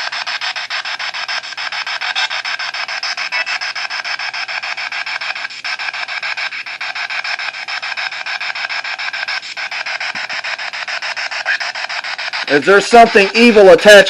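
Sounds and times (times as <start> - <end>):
radio static pulsing: 0.0 - 14.0.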